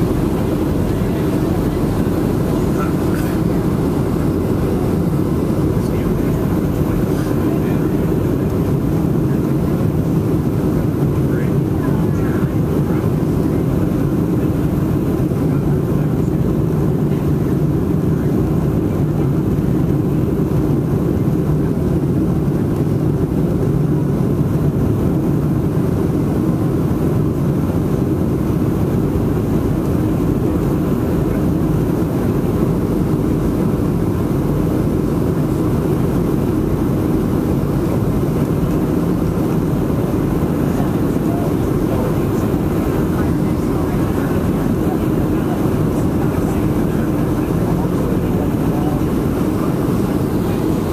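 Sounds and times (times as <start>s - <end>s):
airplane cabin engine rumble: 0.0s - 50.9s
low hum: 0.0s - 50.9s.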